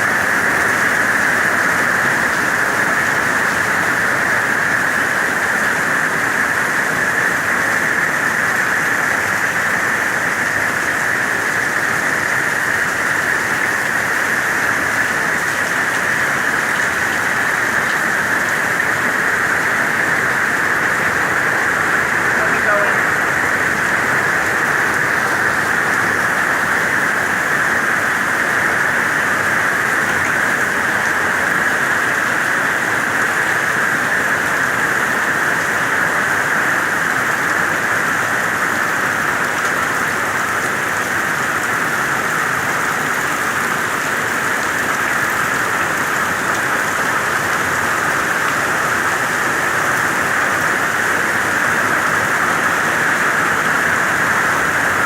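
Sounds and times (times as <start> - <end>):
heavy rain on ground and puddles: 0.0 - 55.0.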